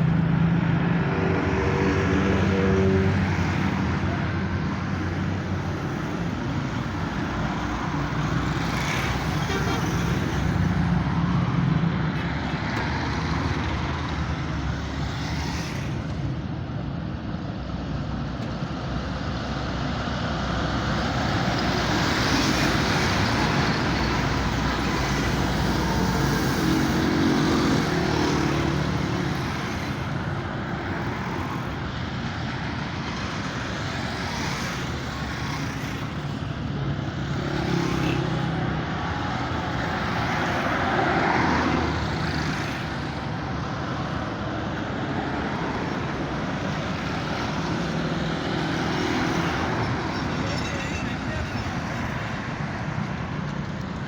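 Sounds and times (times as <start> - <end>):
large vehicle engines rumbling: 0.0 - 54.0
road traffic noise: 0.0 - 54.0.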